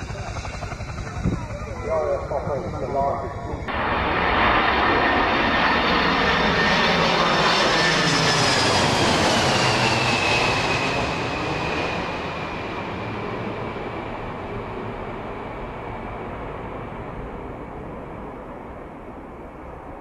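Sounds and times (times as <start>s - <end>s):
airplane engines roaring: 0.0s - 20.0s.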